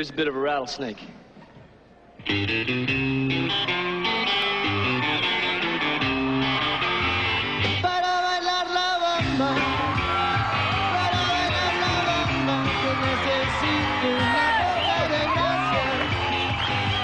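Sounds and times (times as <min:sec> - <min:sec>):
rock music with guitar and singing: 0:02.3 - 0:17.0.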